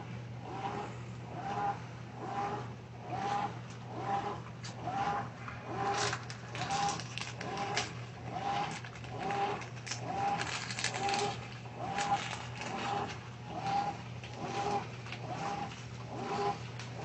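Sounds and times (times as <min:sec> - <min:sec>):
motor hum: 0:00.0 - 0:17.0
washing machine agitating: 0:00.0 - 0:17.0.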